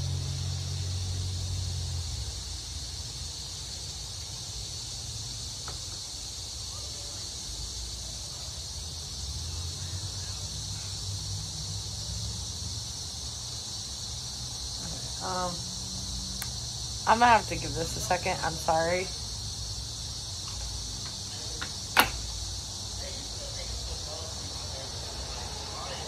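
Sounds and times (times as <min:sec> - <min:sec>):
high-pitched insect chorus: 0:00.0 - 0:26.0
low rumble of distant traffic: 0:00.0 - 0:26.0.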